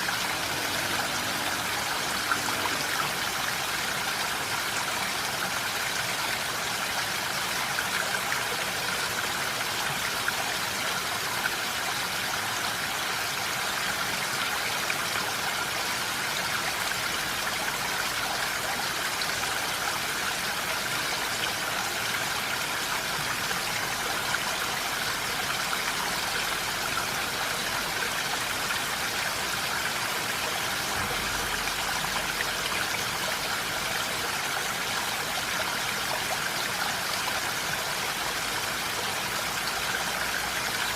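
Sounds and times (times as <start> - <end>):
steady rain falling: 0.0 - 11.8, 13.0 - 40.9.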